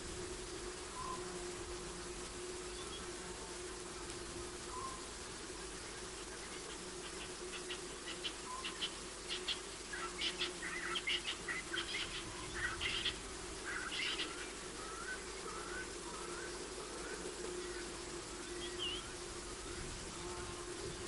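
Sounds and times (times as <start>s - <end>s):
birds chirping: 4.0s - 21.0s.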